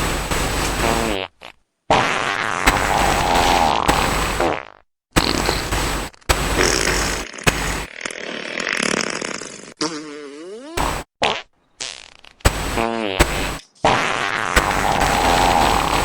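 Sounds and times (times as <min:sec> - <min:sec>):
fart noises: 0:00.0 - 0:16.0.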